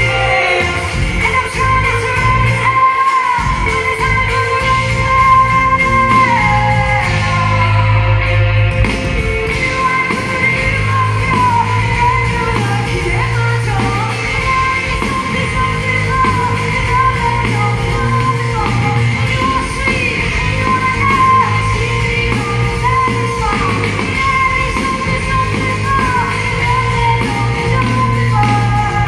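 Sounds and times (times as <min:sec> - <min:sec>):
woman singing full-voiced: 0:00.0 - 0:08.2, 0:09.5 - 0:29.0.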